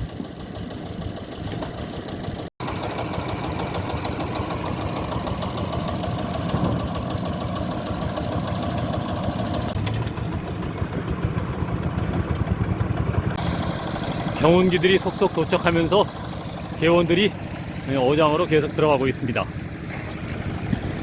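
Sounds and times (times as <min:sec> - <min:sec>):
diesel tiller engine knocking: 0:00.0 - 0:21.0.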